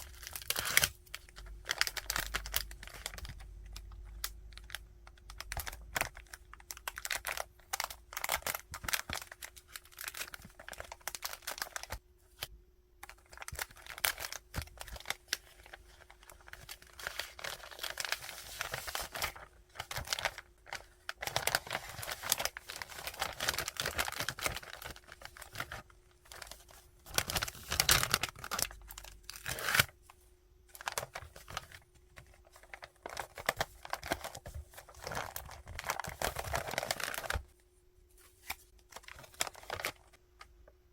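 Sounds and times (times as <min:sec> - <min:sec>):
packing materials crinkling: 0:00.0 - 0:30.0, 0:30.7 - 0:37.5, 0:38.2 - 0:40.4.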